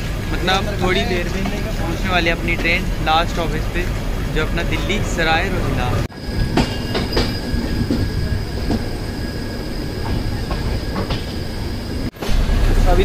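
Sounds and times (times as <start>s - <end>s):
high wheel squeal: 0.0s - 12.1s
train knocks: 0.0s - 13.0s
train wheels rumbling on rail: 0.0s - 13.0s.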